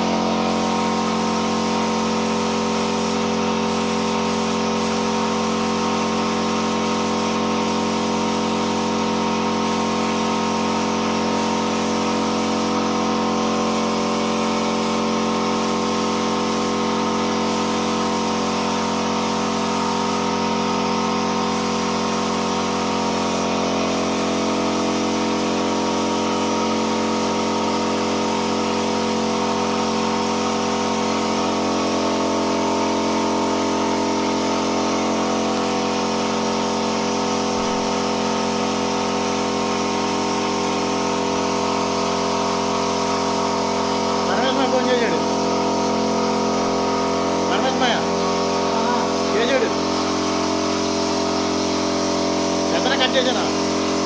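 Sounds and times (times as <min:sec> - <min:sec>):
spray gun hissing: 0:00.0 - 0:54.0.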